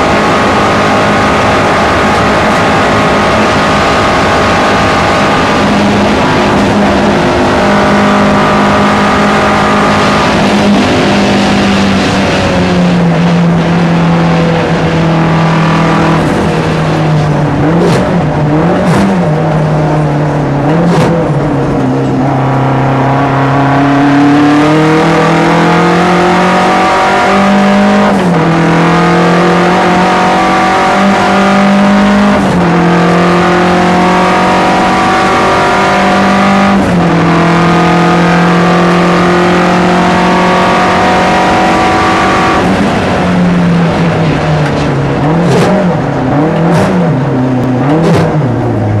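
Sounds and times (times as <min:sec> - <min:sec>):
race car engine under full throttle: 0:00.0 - 0:49.0.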